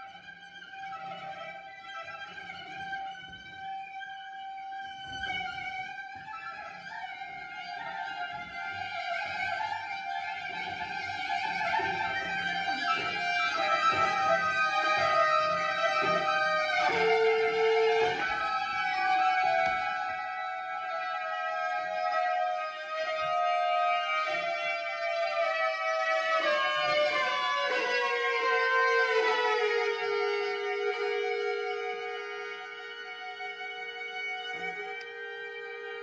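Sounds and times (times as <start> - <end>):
cello bowing: 0.0 - 36.0
viola bowing: 0.0 - 36.0.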